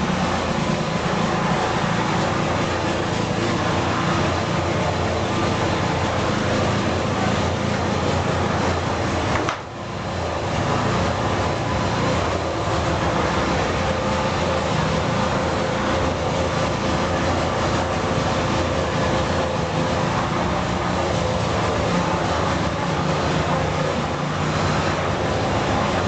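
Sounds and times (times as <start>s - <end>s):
motor vehicle rumble and hum: 0.0s - 26.0s.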